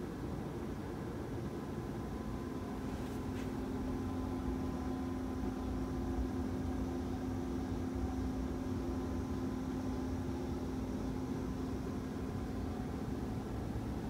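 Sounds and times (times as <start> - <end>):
machine hum with hiss: 0.0 - 14.0.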